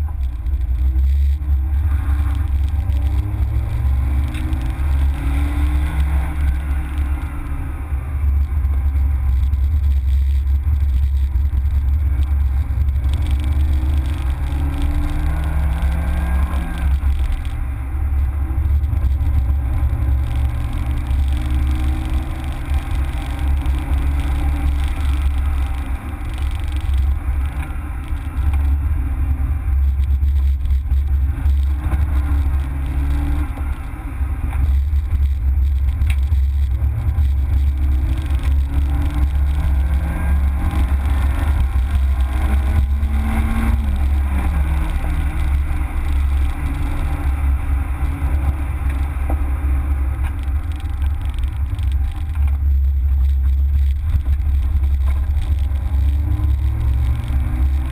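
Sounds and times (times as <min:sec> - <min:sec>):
car engine revving: 0:00.0 - 0:57.9
heavy low rumble: 0:00.0 - 0:57.9.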